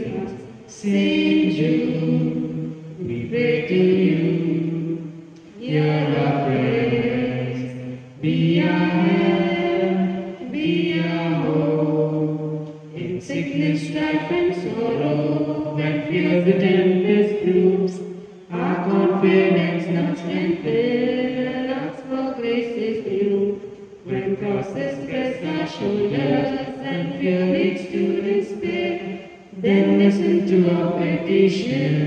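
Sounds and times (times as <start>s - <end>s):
group singing a hymn: 0.0s - 32.0s.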